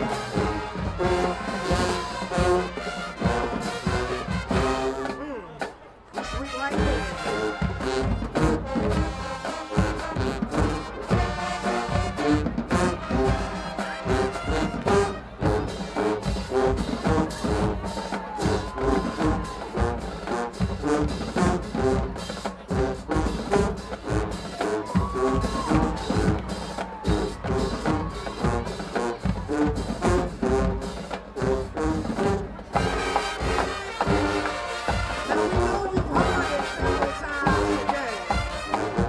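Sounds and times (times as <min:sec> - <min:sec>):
brass section chords: 0:00.0 - 0:39.0
steady drum beat: 0:00.0 - 0:39.0.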